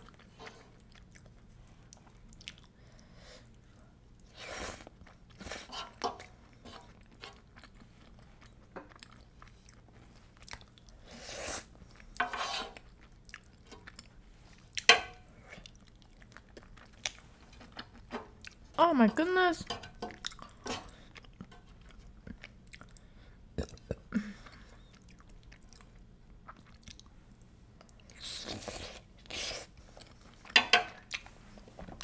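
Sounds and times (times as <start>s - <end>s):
wet chewing and mouth sounds: 0.0s - 18.7s, 20.0s - 31.4s.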